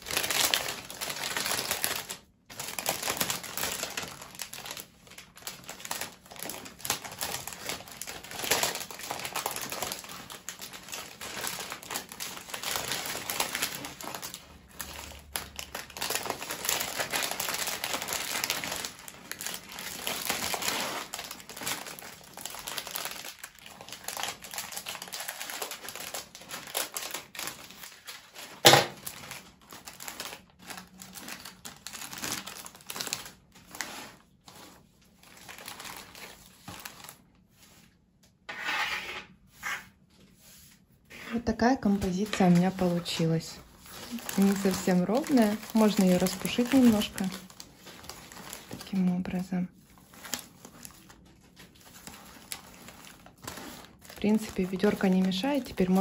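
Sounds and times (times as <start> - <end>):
cellophane crinkling: 0.0 - 38.0, 40.0 - 56.0.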